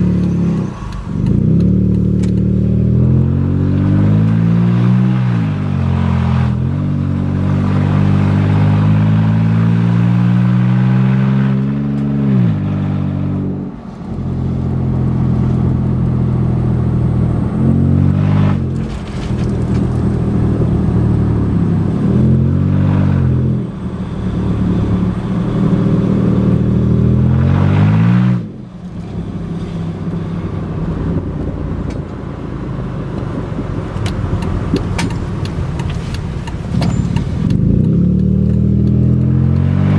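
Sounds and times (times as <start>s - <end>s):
loud car engine revving: 0.0s - 39.9s.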